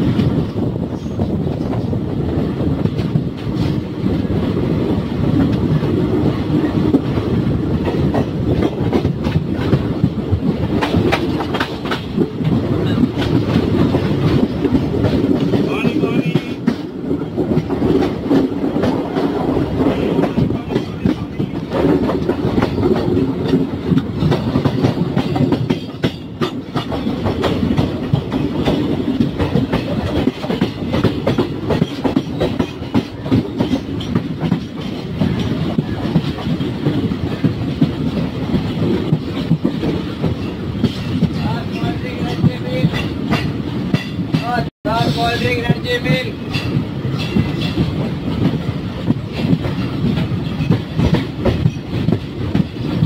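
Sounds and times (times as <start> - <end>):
clickety-clack clatter: 0.0 - 44.7, 45.4 - 53.0
train coach rattling: 0.0 - 53.0
train wheels rumbling on rails: 0.0 - 53.0.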